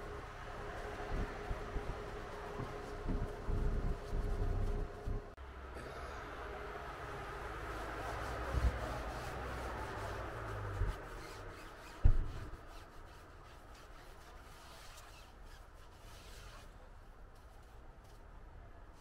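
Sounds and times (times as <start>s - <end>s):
sponge scrubbing a wheel: 0.0s - 5.3s, 7.1s - 18.2s.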